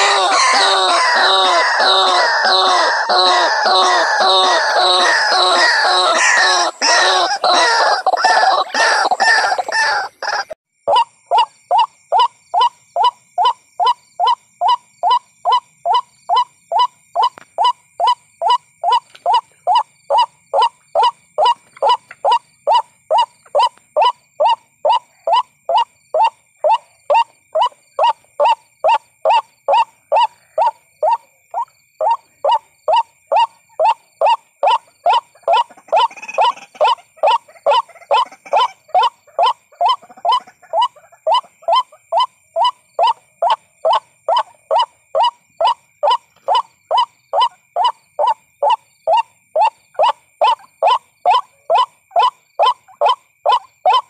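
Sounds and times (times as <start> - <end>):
bird chattering chorus: 0.0 - 54.0.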